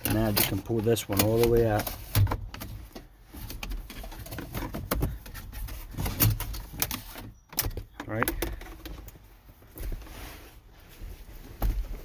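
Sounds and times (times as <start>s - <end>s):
plastic dashboard parts rattling: 0.0s - 10.1s.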